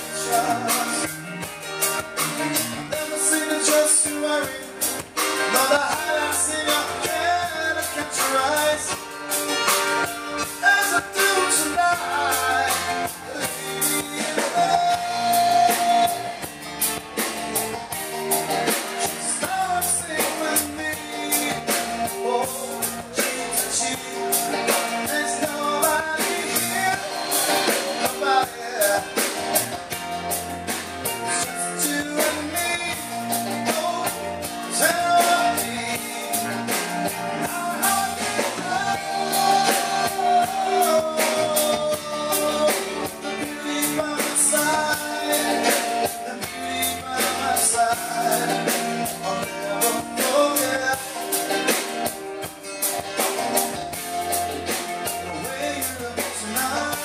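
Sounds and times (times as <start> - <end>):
electric guitar: 0.0 - 57.0
keyboard: 0.0 - 57.0
person singing: 0.0 - 57.0
steady drum beat: 0.0 - 57.0.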